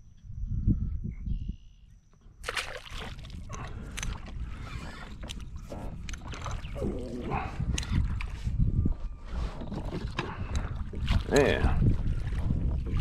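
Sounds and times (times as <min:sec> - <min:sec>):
water sloshing beside kayak: 0:02.4 - 0:13.0.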